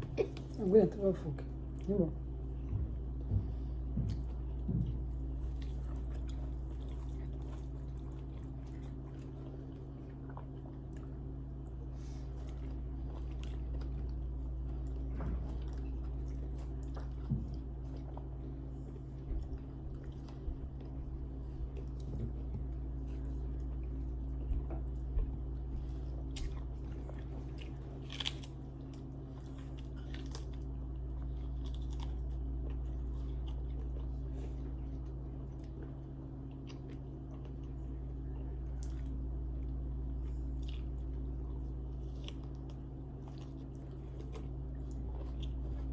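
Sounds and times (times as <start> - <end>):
steady low hum: 0.0 - 45.9
person chewing food: 1.6 - 45.9.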